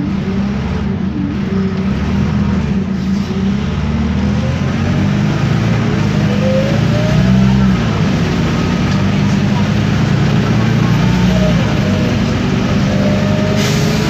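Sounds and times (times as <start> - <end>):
bus diesel engine under load: 0.0 - 14.0.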